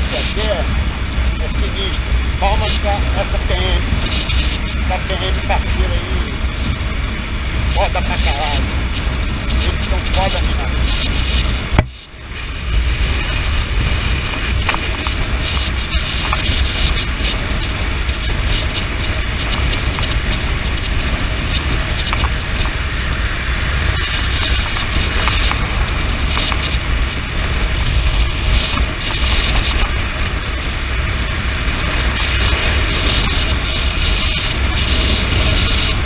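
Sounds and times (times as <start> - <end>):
motorcycle engine rumble: 0.0 - 36.0
wind rushing: 0.0 - 36.0.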